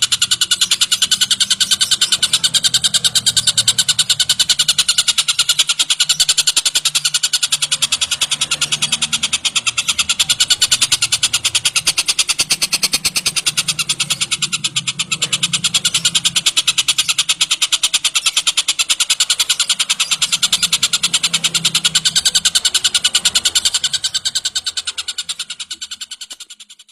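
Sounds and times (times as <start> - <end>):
kingfisher chattering call: 0.0 - 26.9.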